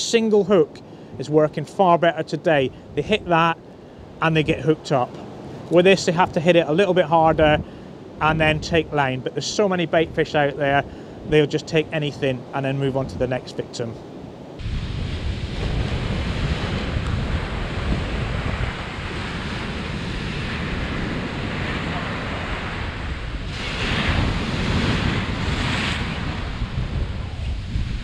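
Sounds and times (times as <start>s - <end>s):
waves breaking on sandy beach: 0.0s - 28.0s
wind buffeting microphone: 2.4s - 13.4s, 14.1s - 28.0s.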